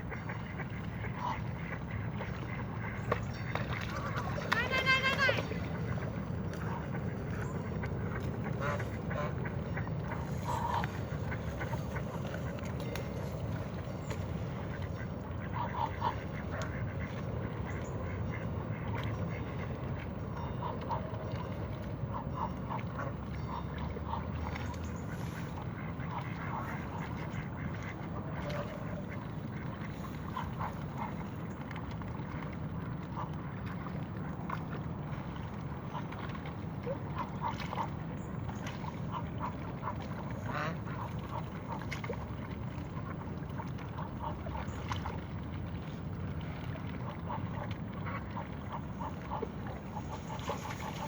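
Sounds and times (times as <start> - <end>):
waterfowl calling: 0.0 - 31.4, 35.2 - 46.0, 46.6 - 51.0.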